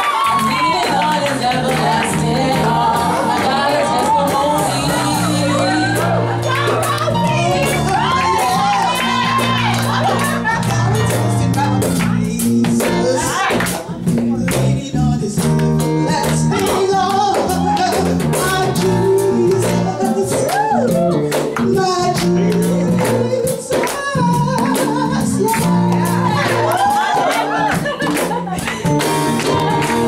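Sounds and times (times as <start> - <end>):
electric bass: 0.0 - 30.0
gospel band playing: 0.0 - 30.0
keyboard: 0.0 - 30.0
person singing: 0.0 - 30.0.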